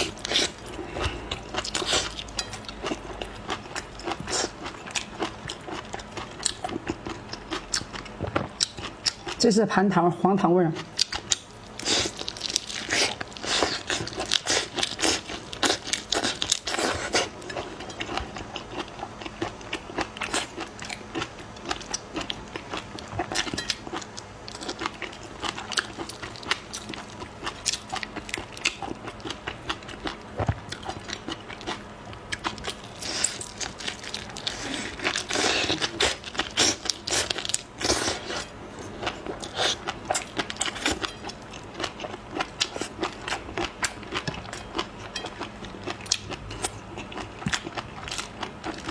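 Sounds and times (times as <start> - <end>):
person chewing crunchy food: 0.0 - 9.4, 10.8 - 48.9.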